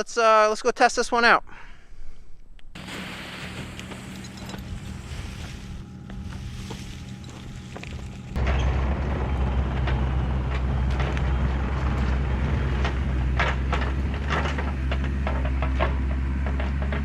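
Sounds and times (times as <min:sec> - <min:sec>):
excavator diesel engine running: 0:02.8 - 0:17.0.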